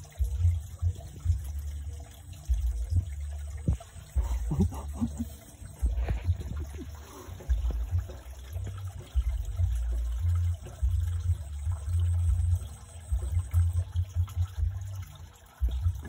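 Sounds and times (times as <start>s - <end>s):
water trickling in a stream: 0.0s - 16.0s
low rumble: 0.1s - 15.0s.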